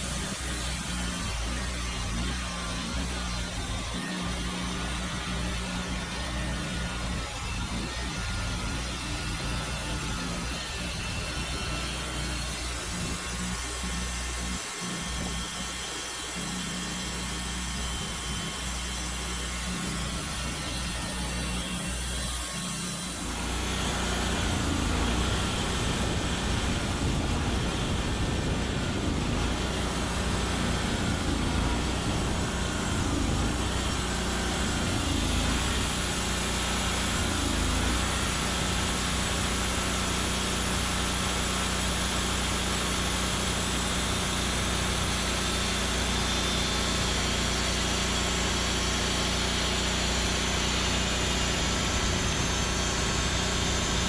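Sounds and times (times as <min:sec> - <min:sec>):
band sawmill engine running: 0:00.0 - 0:54.0.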